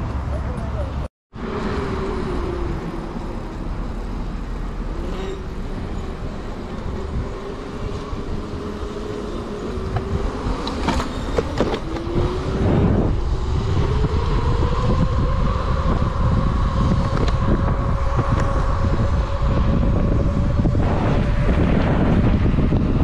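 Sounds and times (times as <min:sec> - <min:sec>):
wind and road rumble: 0:00.0 - 0:23.0.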